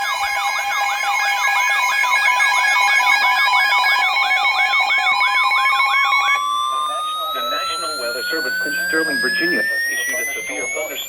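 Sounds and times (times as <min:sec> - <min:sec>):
siren-like alert tone: 0:00.0 - 0:11.0
interrupted beeps: 0:00.4 - 0:11.0.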